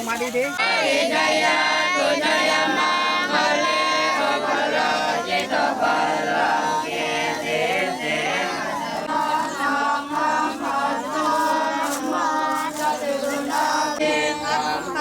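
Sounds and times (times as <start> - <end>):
group of voices chanting: 0.6 - 15.0.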